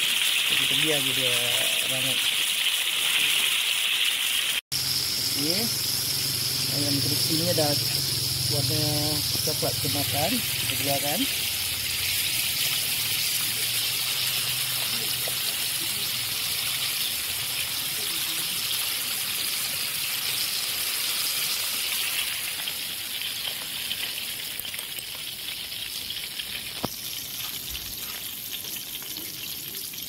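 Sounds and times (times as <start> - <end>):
hot oil sizzling: 0.0 - 30.0.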